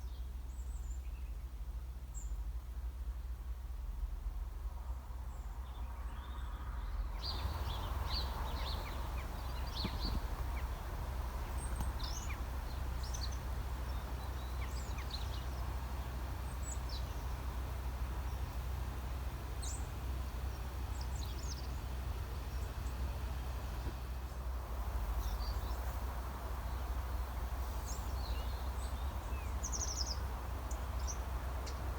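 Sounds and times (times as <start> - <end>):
steady low rumble: 0.7 - 31.9
small birds chirping: 5.3 - 24.4, 25.1 - 31.9.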